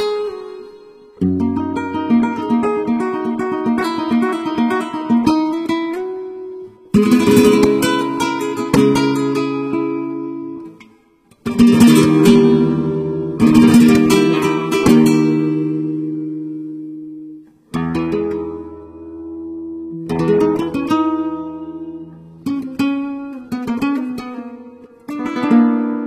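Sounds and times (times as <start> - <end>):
classical guitar playing: 0.0 - 26.0.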